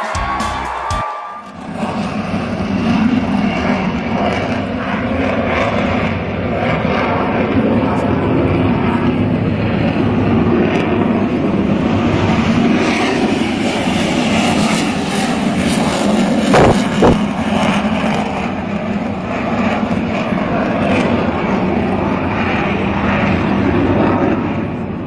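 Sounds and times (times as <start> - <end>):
jet engine rumble overhead: 1.4 - 25.0.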